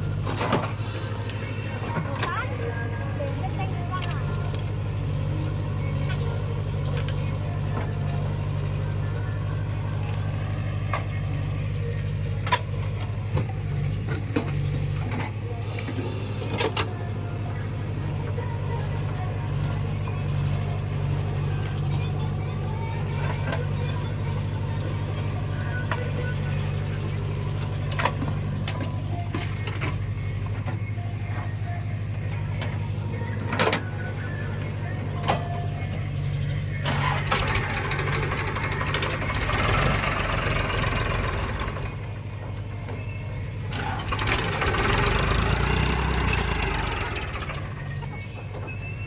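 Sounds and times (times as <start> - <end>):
diesel engine idling: 0.0 - 49.0.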